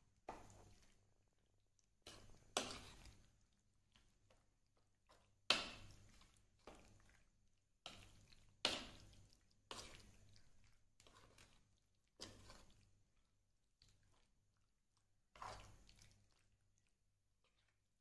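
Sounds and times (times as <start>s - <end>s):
spoon squelching in marinade: 0.3s - 1.0s, 1.8s - 17.8s.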